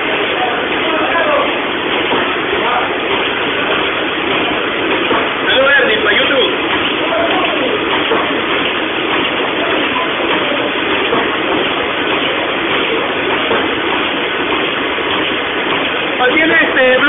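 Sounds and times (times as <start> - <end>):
printing press running: 0.0 - 17.0.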